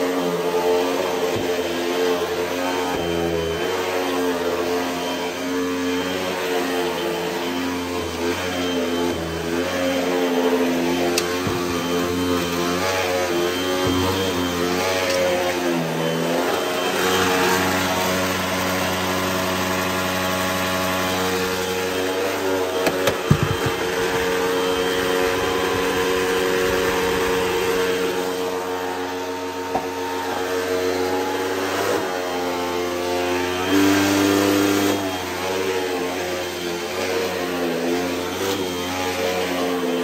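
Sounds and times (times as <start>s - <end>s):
vacuum cleaner running on carpet: 0.0s - 40.0s.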